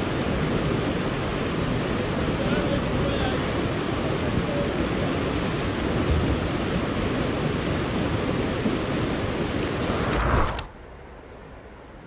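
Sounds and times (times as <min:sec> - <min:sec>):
river rushing over rapids: 0:00.0 - 0:10.7.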